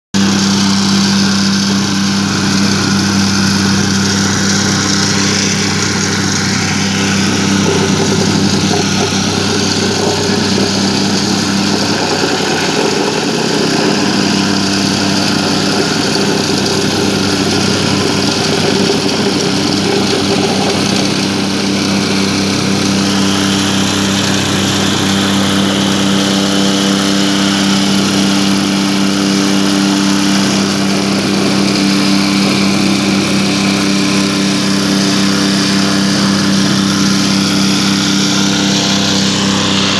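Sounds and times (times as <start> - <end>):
plate compactor running: 0.1 - 39.9.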